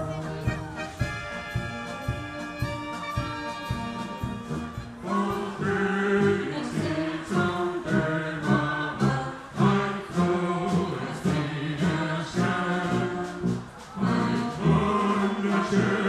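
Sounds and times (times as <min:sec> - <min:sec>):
brass band playing: 0:00.0 - 0:16.0
group of voices singing a march: 0:00.0 - 0:16.0.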